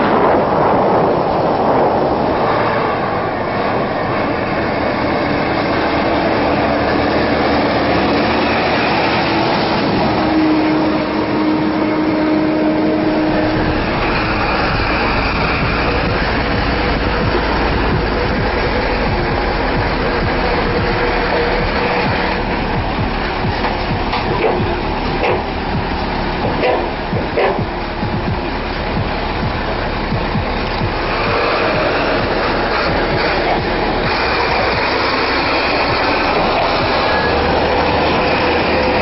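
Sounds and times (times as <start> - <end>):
deep rumble: 0.0 - 39.0
diesel engine and road noise: 0.0 - 39.0.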